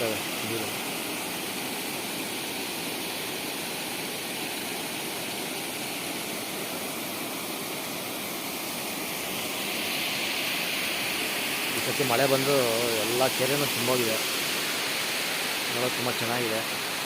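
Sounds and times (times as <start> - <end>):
water rushing over weir: 0.0 - 17.0.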